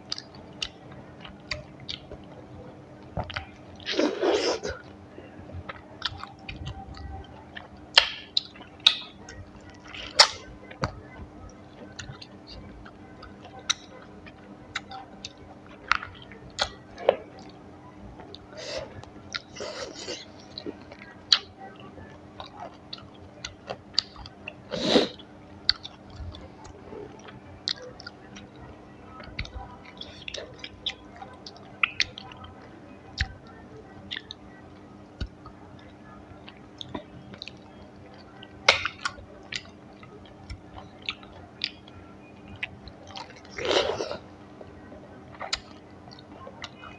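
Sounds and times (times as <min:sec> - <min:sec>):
person chewing and eating: 0:00.0 - 0:28.6, 0:36.5 - 0:44.7, 0:45.3 - 0:46.9
faint steady hum: 0:00.0 - 0:46.9.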